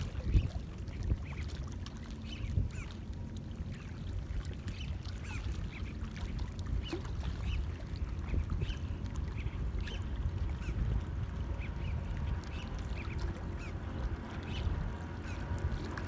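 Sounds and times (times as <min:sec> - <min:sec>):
steady low rumble: 0:00.0 - 0:16.0
waves lapping against boat hull: 0:00.0 - 0:16.0.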